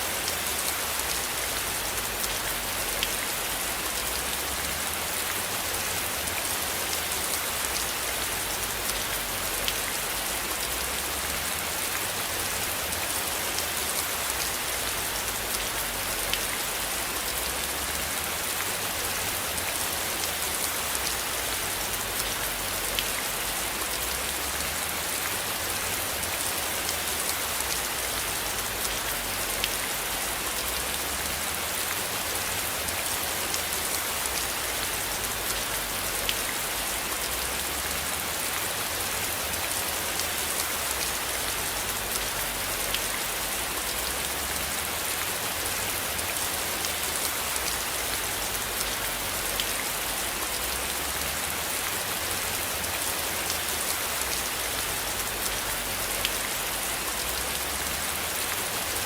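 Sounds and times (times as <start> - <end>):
steady rain on a surface: 0.0 - 59.0.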